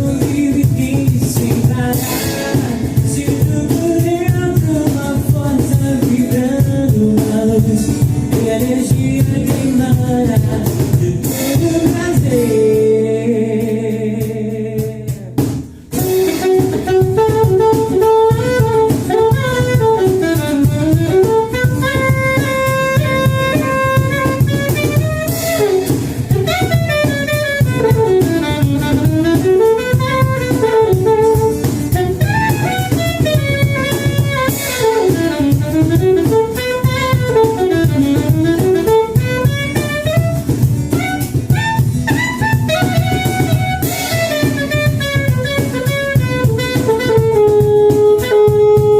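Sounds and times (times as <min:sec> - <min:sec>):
saxophone lead melody: 0:00.0 - 0:10.3, 0:15.9 - 0:48.9
drum kit: 0:00.0 - 0:48.9.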